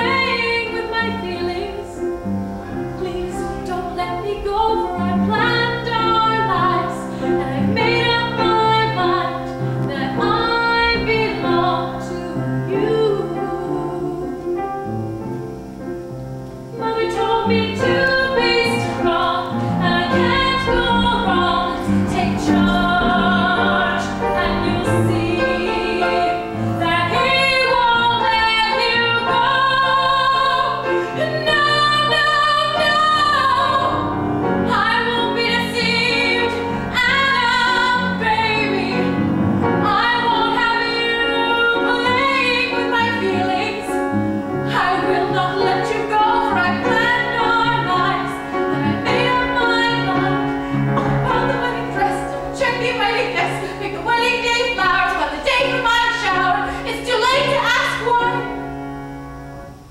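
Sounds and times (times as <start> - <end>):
woman singing: 0.0 - 14.7, 16.6 - 58.6
instrumental accompaniment: 0.0 - 59.9.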